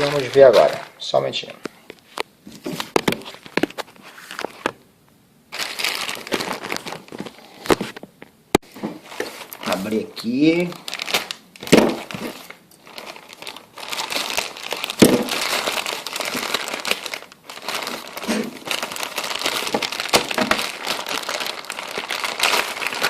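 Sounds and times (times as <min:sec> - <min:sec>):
packing wrap crackling and rustling: 0:00.0 - 0:04.8, 0:05.5 - 0:08.0, 0:08.6 - 0:23.0.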